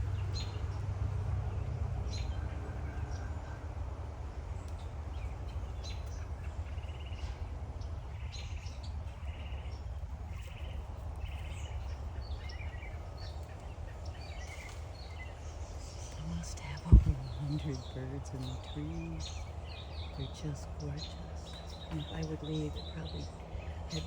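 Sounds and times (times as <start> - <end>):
songbirds calling: 0.0 - 24.0
steady low hum: 0.0 - 24.0.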